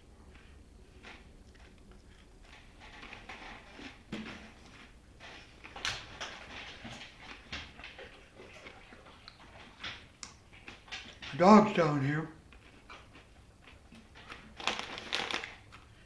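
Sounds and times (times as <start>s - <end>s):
chewing crunchy chips: 0.2s - 11.4s, 12.4s - 16.0s.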